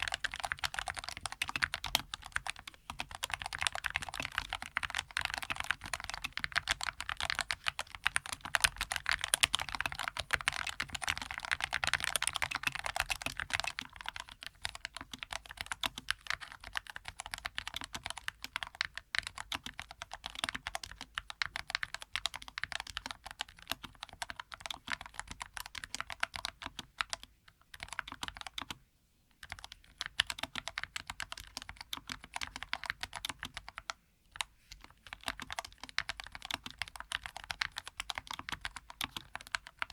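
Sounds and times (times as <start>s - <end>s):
typing on mechanical keyboard: 0.0s - 28.8s, 29.4s - 39.9s.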